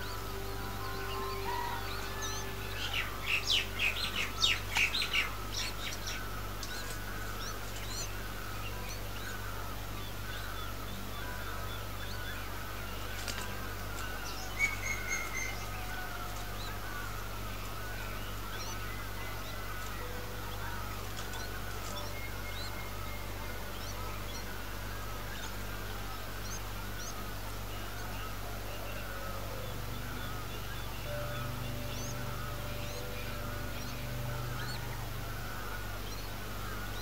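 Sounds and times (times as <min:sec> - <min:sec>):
birds chattering and chirping: 0:00.0 - 0:37.0
loud bird calls: 0:00.0 - 0:37.0
low steady hum: 0:00.0 - 0:37.0.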